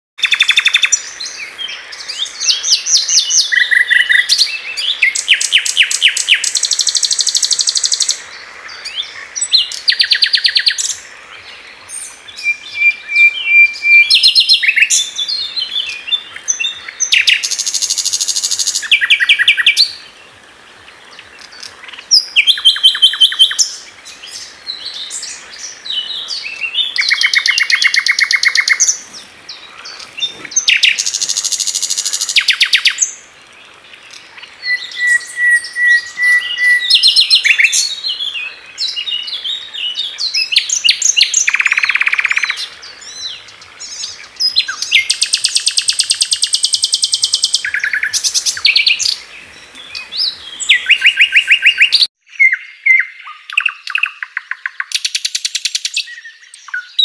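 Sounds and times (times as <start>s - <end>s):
nightingale singing: 0.2s - 57.0s.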